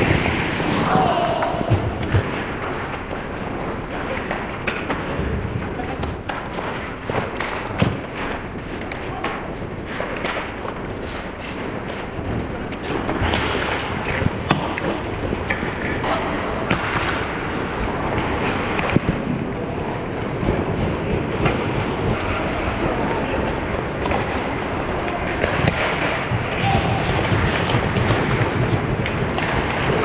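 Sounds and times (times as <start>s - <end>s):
hockey sticks and puck clacking: 0.0s - 30.0s
skate blades scraping ice: 0.0s - 30.0s.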